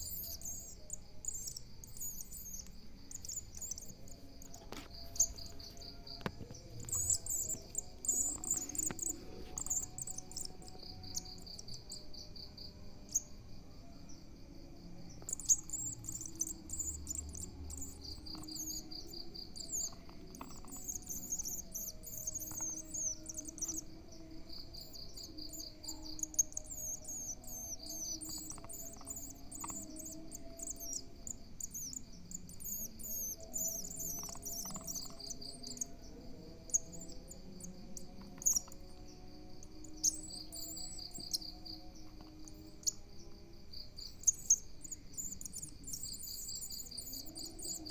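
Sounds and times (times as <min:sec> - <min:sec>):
nestlings begging chirps: 0:00.0 - 0:12.4, 0:15.1 - 0:43.1, 0:43.9 - 0:47.9
cricket pulsed trill: 0:00.0 - 0:47.9.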